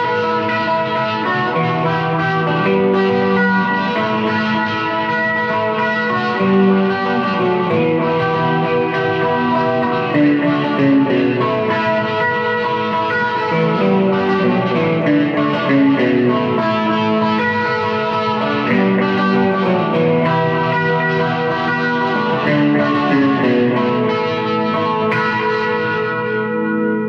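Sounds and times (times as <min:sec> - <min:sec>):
guitar strumming chords: 0:00.0 - 0:27.0.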